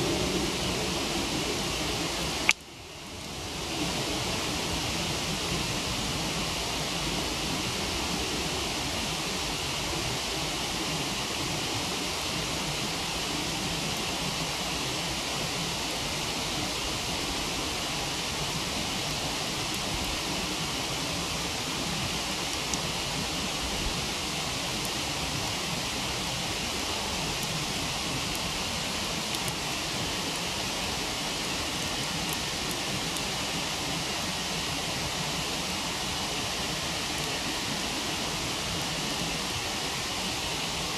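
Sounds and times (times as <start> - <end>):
campfire crackles: 0.0 - 40.9
waterfall rushing: 0.0 - 40.9.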